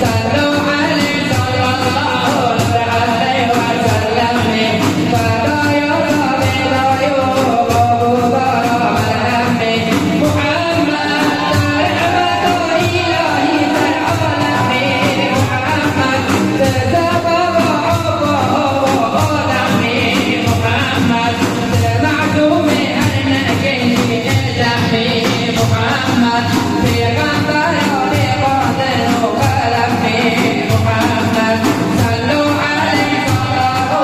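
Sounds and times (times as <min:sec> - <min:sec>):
frame drums beating: 0:00.0 - 0:34.0
men singing a hymn: 0:00.0 - 0:34.0.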